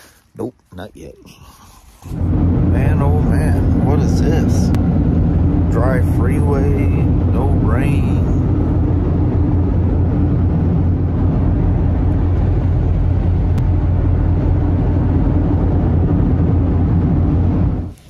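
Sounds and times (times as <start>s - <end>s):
engine drone: 2.0s - 18.0s.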